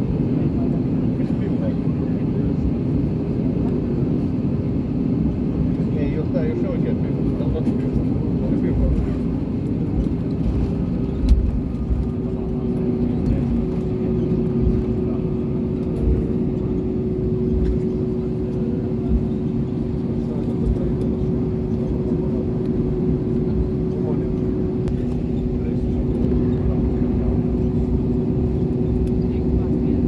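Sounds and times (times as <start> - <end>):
airplane cabin engine hum: 0.0 - 30.0.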